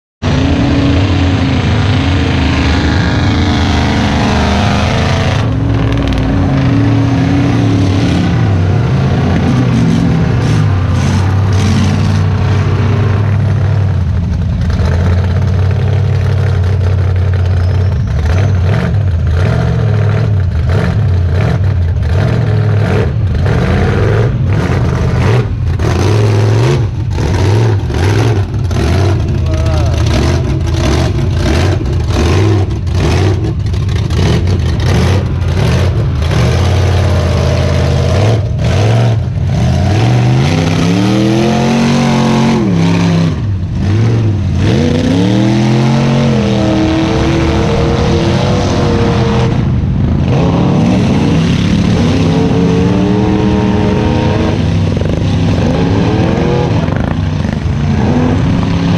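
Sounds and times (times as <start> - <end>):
engine revving: 0.2 - 58.9
truck engines running loud: 0.2 - 58.9.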